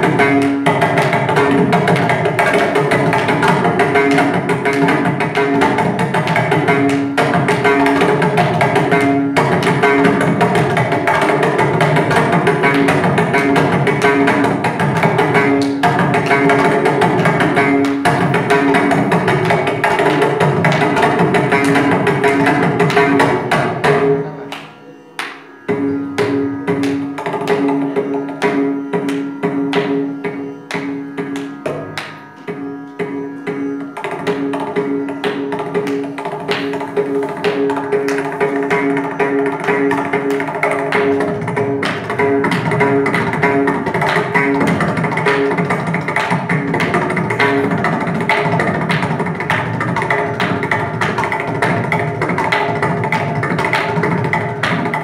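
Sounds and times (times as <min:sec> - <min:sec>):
mridangam drum strokes: 0:00.0 - 0:55.0.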